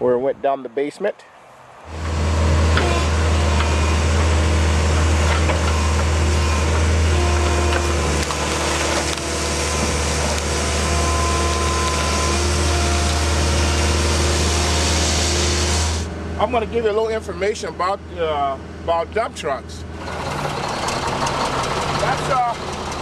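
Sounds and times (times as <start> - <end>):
heavy diesel machinery running: 1.9 - 23.0.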